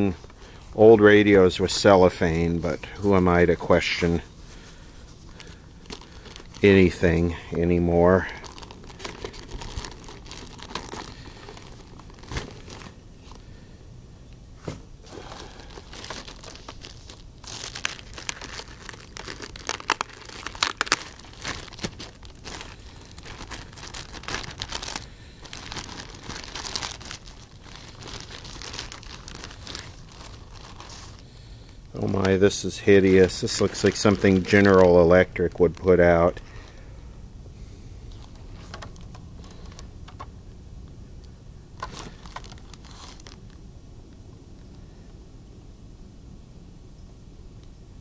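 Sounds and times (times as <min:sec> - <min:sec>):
cellophane crinkling and tearing: 0:00.0 - 0:13.4, 0:15.1 - 0:36.8, 0:38.1 - 0:40.3, 0:41.8 - 0:43.7.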